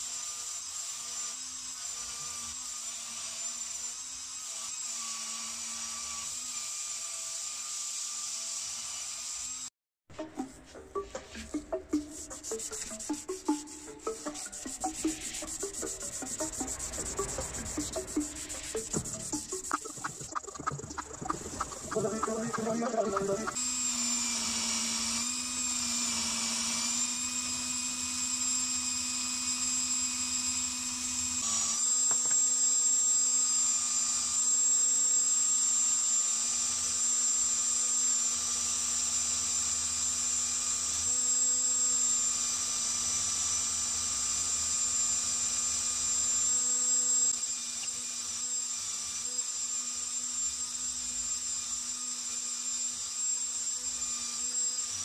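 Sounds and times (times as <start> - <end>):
cordless drill motor whine: 0.0 - 9.7, 16.4 - 55.0.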